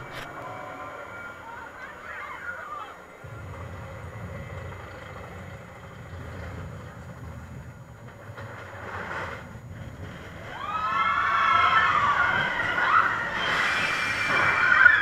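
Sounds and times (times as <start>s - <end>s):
roller coaster rumbling on track: 0.0s - 15.0s.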